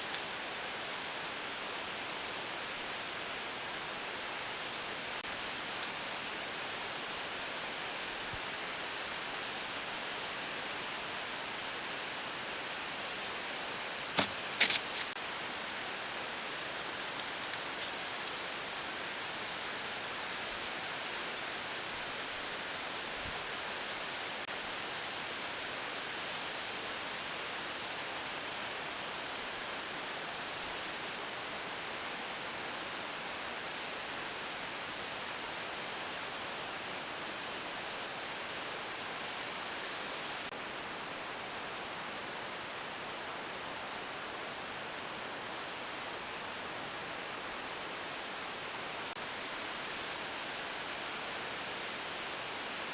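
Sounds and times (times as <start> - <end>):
steady hiss: 0.0 - 52.9.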